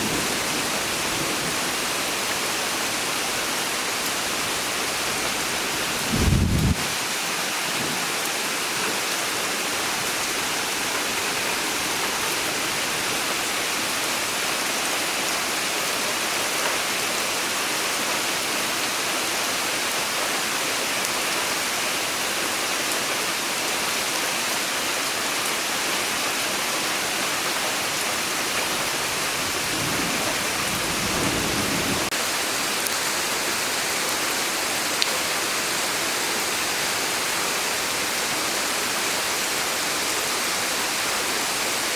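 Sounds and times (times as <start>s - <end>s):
heavy rain hissing: 0.0s - 19.6s, 23.2s - 41.9s.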